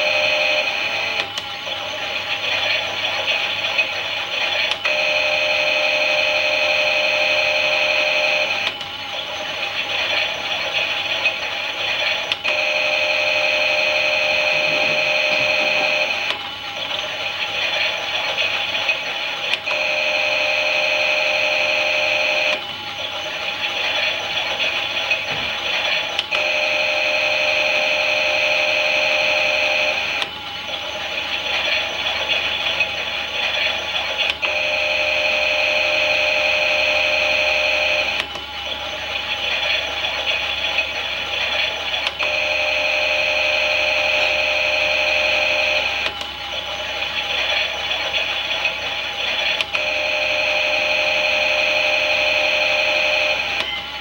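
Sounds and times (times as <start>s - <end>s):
toy washing machine motor whirring: 0.0s - 54.0s.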